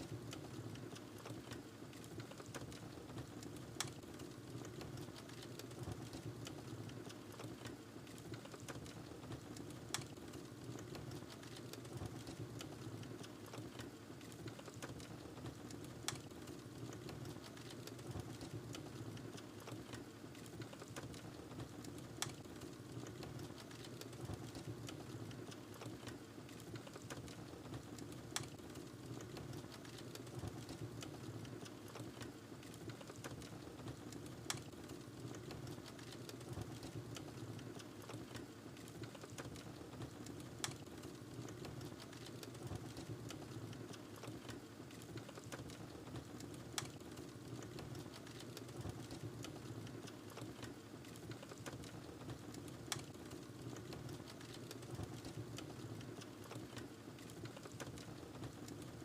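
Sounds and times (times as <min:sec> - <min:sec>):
wood fire crackling: 0:00.1 - 0:59.0.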